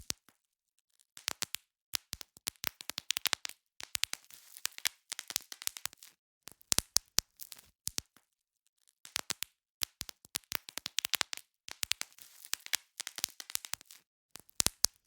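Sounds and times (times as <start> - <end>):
bubble wrap popping: 1.2 - 8.2, 9.1 - 15.0.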